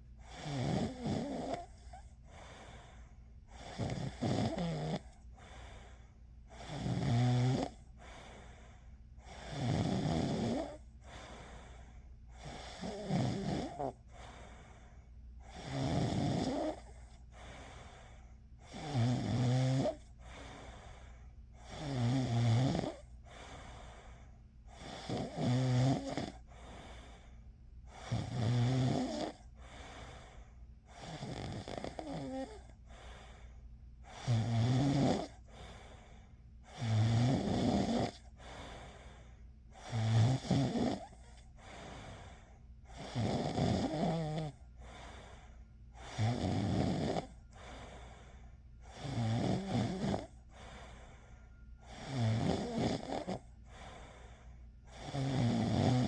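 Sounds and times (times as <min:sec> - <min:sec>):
quiet breathing: 0:00.0 - 0:56.0
person snoring: 0:00.2 - 0:14.8, 0:15.4 - 0:24.1, 0:24.7 - 0:27.3, 0:27.9 - 0:33.4, 0:34.0 - 0:36.0, 0:36.6 - 0:56.0.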